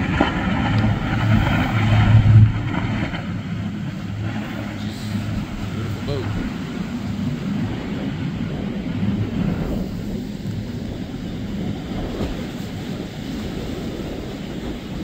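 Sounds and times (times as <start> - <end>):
outboard motors droning: 0.0 - 15.0
wind rumble on microphone: 0.0 - 15.0.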